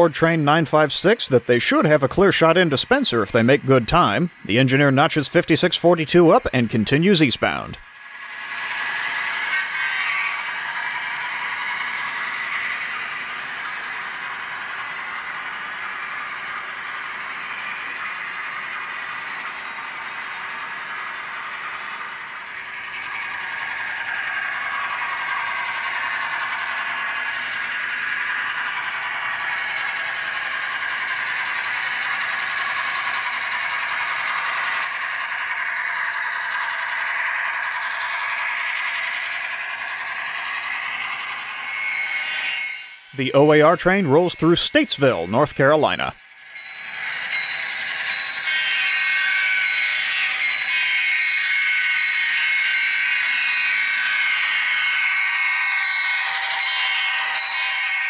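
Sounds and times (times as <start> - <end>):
model train wheels on rails: 0.0 - 58.0.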